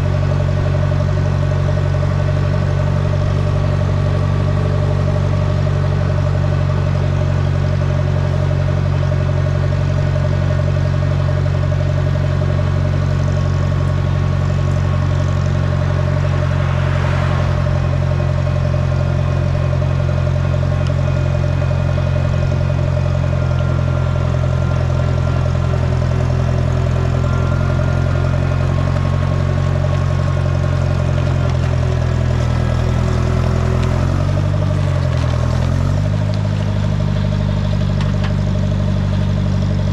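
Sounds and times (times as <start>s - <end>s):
road grader engine running: 0.0s - 39.9s.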